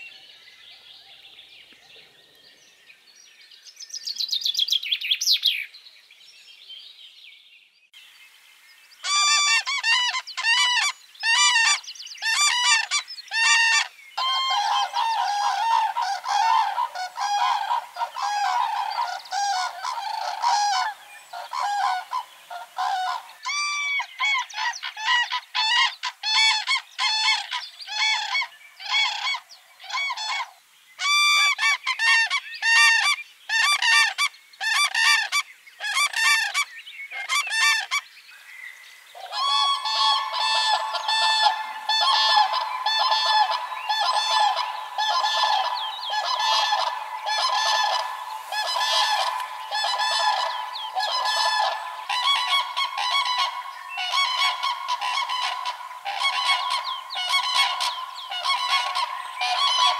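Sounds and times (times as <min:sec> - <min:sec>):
cranes trumpeting calls: 0:09.0 - 0:38.0, 0:39.2 - 0:59.9.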